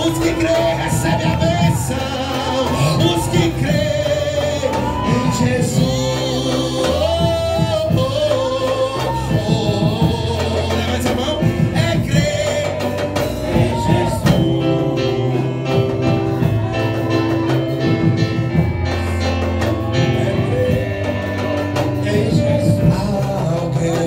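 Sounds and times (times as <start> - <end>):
man singing into a microphone: 0.0 - 17.2, 19.8 - 24.0
instrumental backing music: 0.0 - 24.0.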